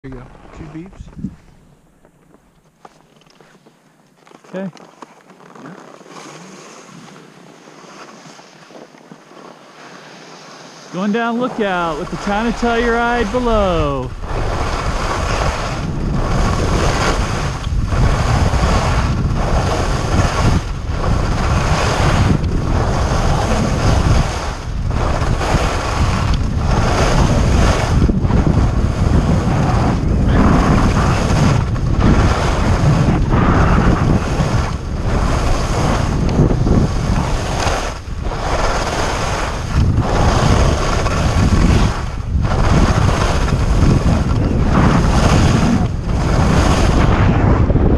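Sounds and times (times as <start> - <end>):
wind rushing over microphone: 0.0 - 1.8, 10.9 - 47.9
skis scraping over snow: 0.0 - 47.9.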